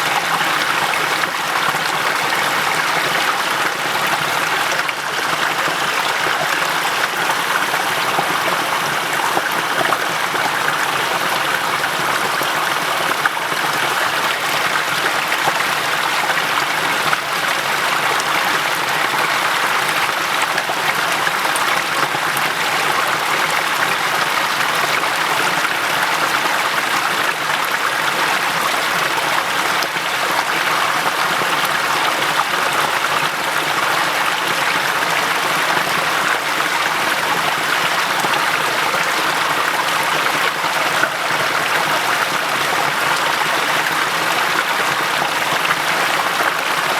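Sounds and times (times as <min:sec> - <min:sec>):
small waterfall cascading: 0:00.0 - 0:46.9.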